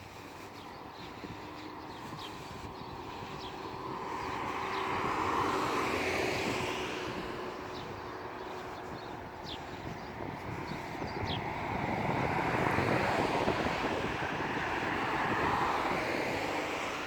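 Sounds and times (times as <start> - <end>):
vehicle passing: 0.0 - 17.0.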